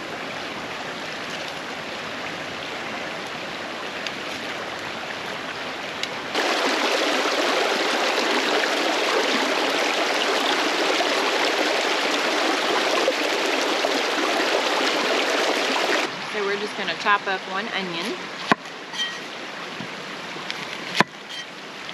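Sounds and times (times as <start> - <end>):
creek water rushing: 0.0 - 21.9.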